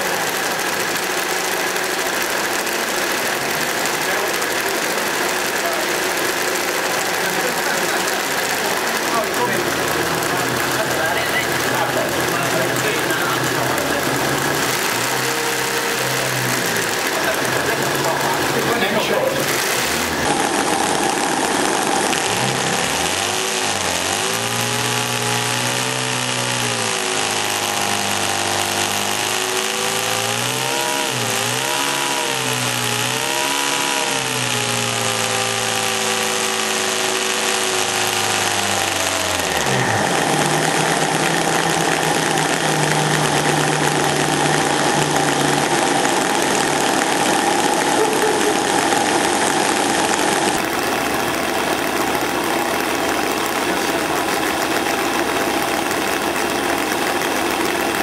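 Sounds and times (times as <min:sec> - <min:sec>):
model radial engine running: 0:00.0 - 0:58.0.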